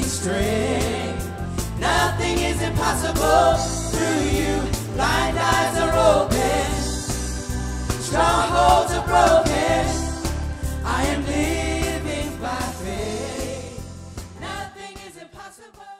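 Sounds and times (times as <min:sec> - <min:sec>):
steady bass: 0:00.0 - 0:14.6
keyboard accompaniment: 0:00.0 - 0:14.7
group singing a gospel song: 0:00.0 - 0:15.9.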